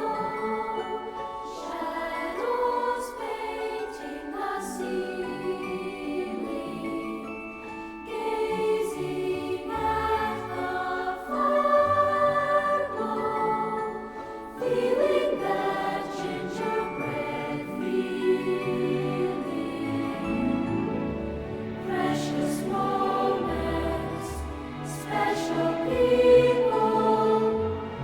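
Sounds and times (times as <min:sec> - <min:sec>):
choir singing christmas music: 0:00.0 - 0:28.0.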